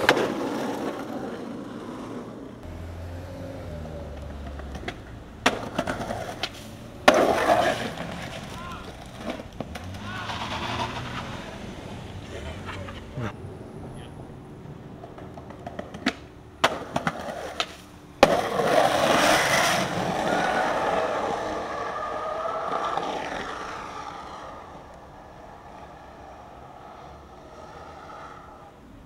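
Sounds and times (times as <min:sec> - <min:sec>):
skateboard clacks: 0:00.0 - 0:02.3, 0:04.1 - 0:11.6, 0:14.9 - 0:28.6
skateboard hitting pavement: 0:00.0 - 0:02.5, 0:04.1 - 0:11.6, 0:15.0 - 0:28.6
skateboard wheels rolling on asphalt: 0:00.0 - 0:29.0.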